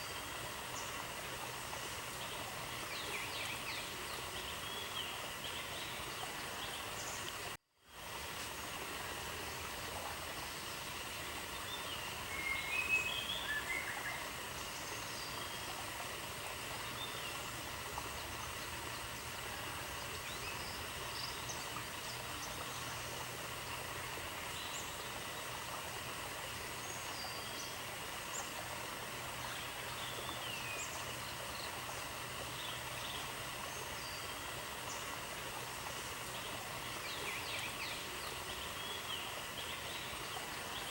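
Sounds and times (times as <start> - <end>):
steady hiss: 0.0 - 40.9.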